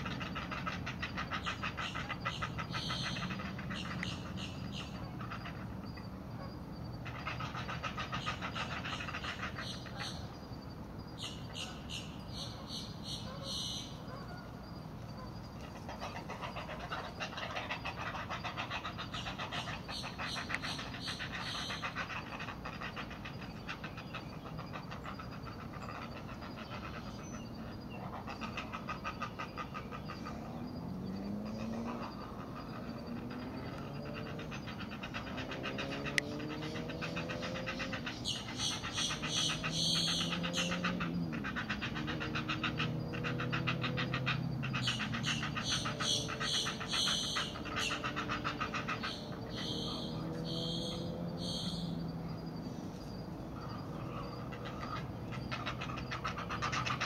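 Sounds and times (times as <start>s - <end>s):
heron chicks clicking chatter: 0.0s - 6.1s, 7.0s - 10.3s, 15.6s - 30.2s, 31.6s - 52.0s, 53.7s - 57.0s
drawn-out gliding bird calls: 0.0s - 57.0s.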